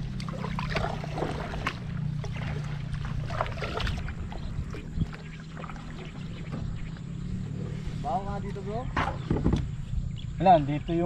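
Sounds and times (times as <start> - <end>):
paddle splashing water: 0.0 - 9.6
low hum: 0.0 - 10.9.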